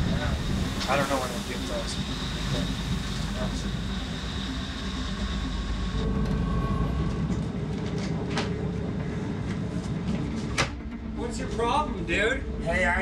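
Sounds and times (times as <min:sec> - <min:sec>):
boat engine rumble: 0:00.0 - 0:12.8.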